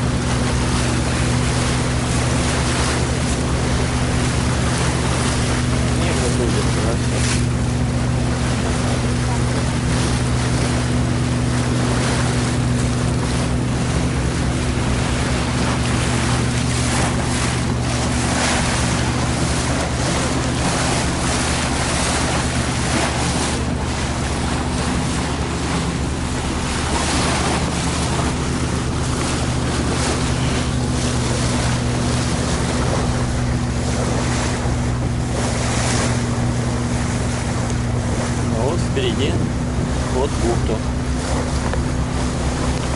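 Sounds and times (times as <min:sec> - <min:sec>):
motor boat engine droning: 0:00.0 - 0:42.9
water rushing along hull: 0:00.0 - 0:42.9.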